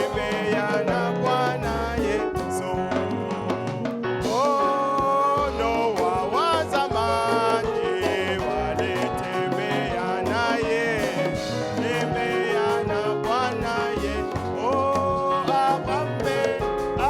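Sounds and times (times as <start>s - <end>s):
bass guitar: 0.0s - 17.0s
drums with steady beat: 0.0s - 17.0s
plucked electric guitar: 0.0s - 17.0s.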